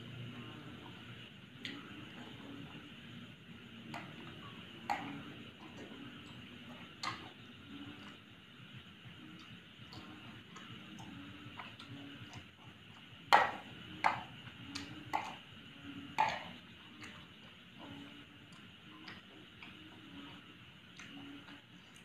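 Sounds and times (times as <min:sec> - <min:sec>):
faint steady ticking: 0:00.0 - 0:22.0.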